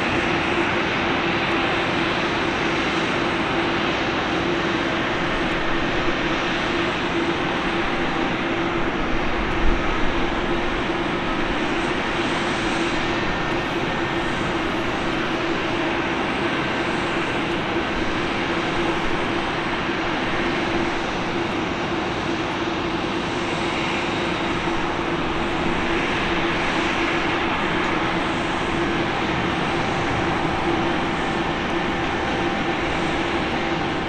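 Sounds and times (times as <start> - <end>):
jet engines at low thrust: 0.0 - 34.0.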